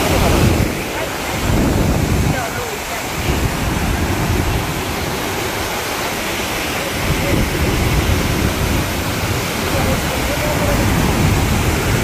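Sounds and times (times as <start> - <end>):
churning white water rushing: 0.0 - 12.0.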